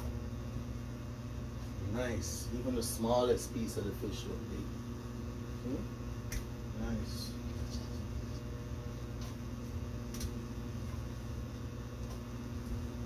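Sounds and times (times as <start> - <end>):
appliance humming: 0.0 - 13.0.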